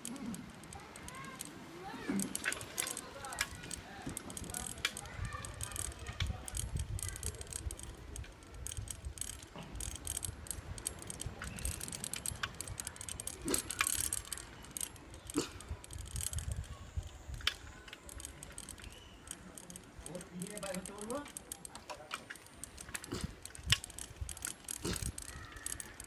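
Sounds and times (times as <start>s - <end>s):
bicycle rattling on pavement: 0.0s - 26.0s
irregular clicks and ticks: 0.0s - 26.0s.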